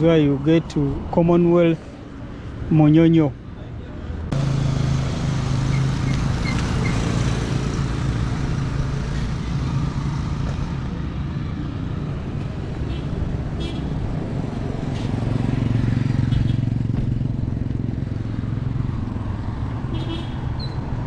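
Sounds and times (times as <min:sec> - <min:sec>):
traffic noise: 0:00.0 - 0:21.0
vehicle engine humming: 0:04.1 - 0:21.0.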